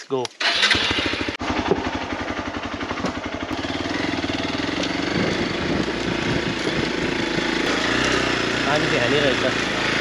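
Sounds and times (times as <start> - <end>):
motorcycle engine: 0.4 - 10.0.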